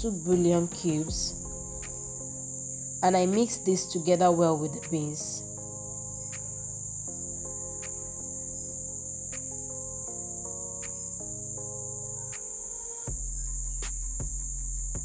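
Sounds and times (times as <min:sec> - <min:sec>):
soft melodic music: 0:00.0 - 0:14.4.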